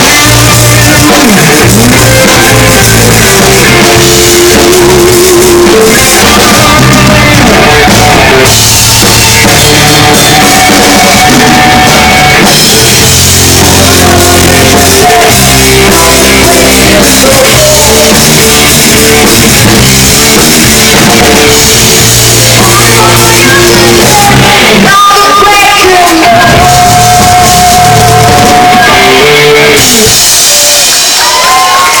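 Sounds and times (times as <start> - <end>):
drum kit: 0.0 - 32.0
electric guitars: 0.0 - 32.0
person singing: 0.0 - 32.0.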